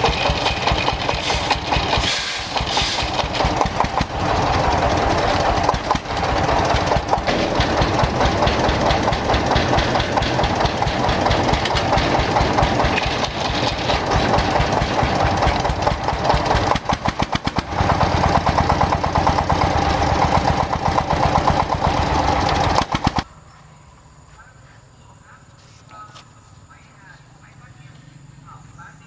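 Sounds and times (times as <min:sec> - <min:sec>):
old tractor engine running: 0:00.0 - 0:23.3.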